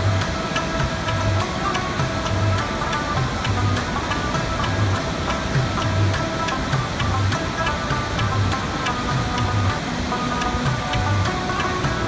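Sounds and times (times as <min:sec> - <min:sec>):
plucked lute melody: 0:00.0 - 0:12.0.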